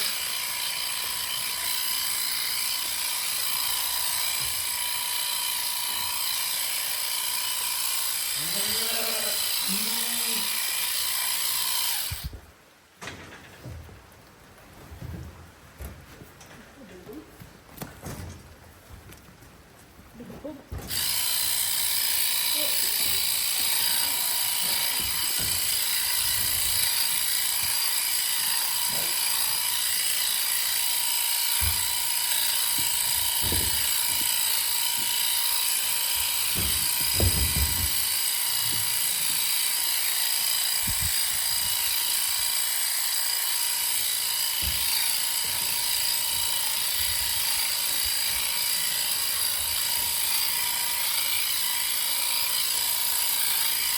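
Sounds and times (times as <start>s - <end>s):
electric sheep shears whining: 0.0s - 12.4s, 20.7s - 53.9s.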